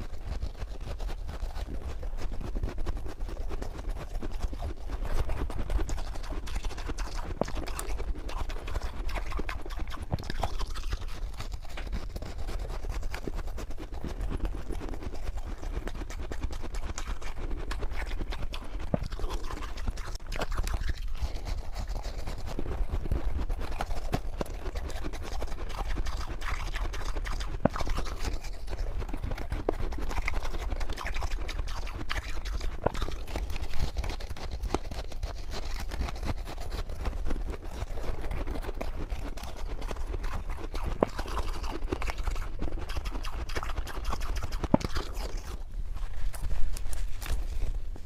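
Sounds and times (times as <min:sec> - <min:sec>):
frost crunching in mouth: 0:00.0 - 0:48.0.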